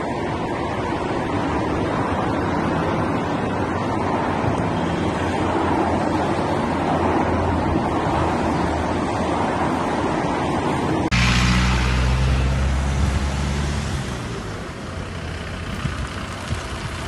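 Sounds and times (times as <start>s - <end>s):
road traffic rushing past: 0.0s - 17.0s.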